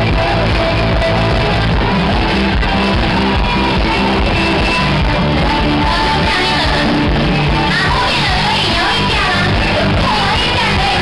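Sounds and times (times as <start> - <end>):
loud live band music: 0.0 - 11.0.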